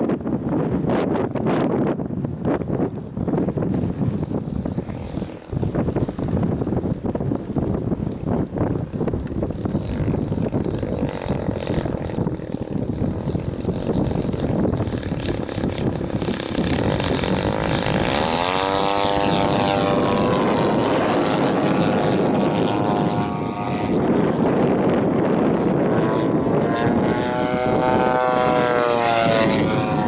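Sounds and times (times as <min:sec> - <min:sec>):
model plane engine and propeller: 0:00.0 - 0:30.0
wind buffeting microphone: 0:00.0 - 0:30.0.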